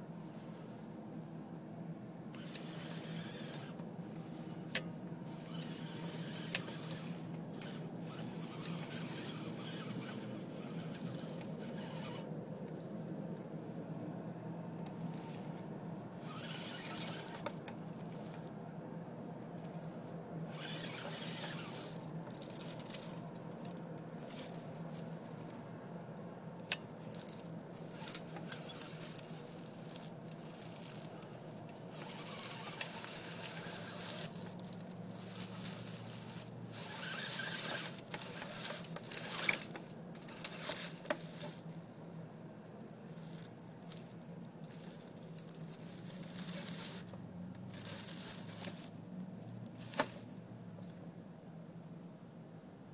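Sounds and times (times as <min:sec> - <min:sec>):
low steady hum: 0:00.0 - 0:52.9
tyres crunching through leaves: 0:00.1 - 0:01.0, 0:02.4 - 0:13.1, 0:14.8 - 0:18.6, 0:19.4 - 0:41.9, 0:43.0 - 0:50.6.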